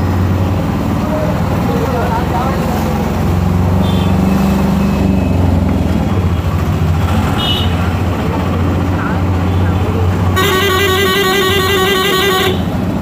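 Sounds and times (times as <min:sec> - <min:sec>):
street traffic: 0:00.0 - 0:13.0
vehicle engine droning: 0:00.0 - 0:13.0.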